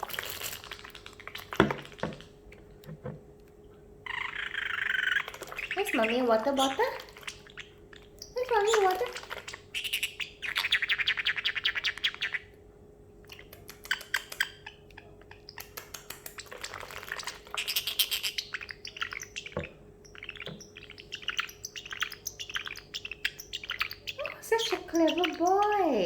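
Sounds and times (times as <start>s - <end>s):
parrotlet clicking chatter: 4.1s - 12.4s, 13.3s - 26.0s.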